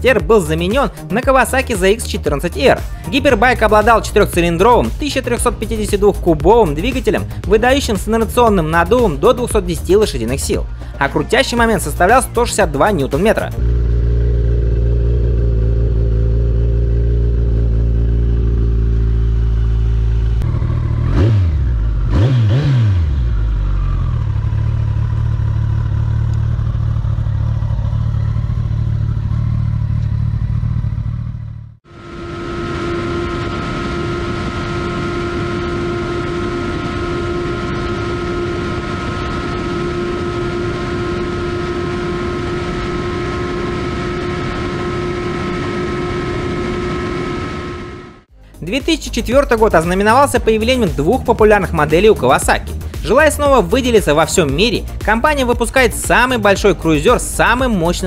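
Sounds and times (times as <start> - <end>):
motorcycle engine at high speed: 0.0 - 48.3, 49.9 - 57.9
motorcycle engine idling and revving: 0.0 - 48.5, 49.1 - 58.0.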